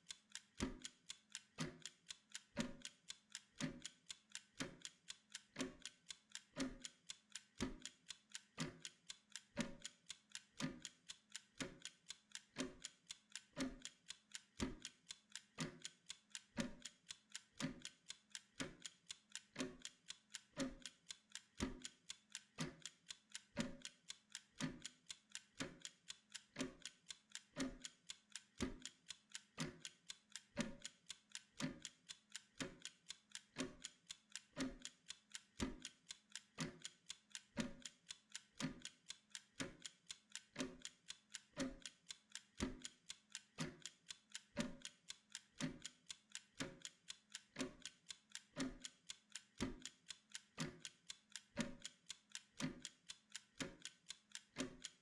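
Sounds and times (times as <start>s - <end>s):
mechanical timer ticking: 0.0s - 55.0s.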